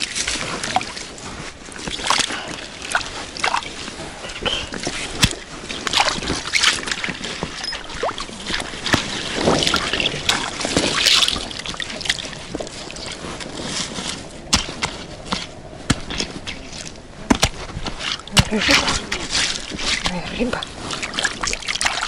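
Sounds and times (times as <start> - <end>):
shallow river water sloshing: 0.0 - 22.0.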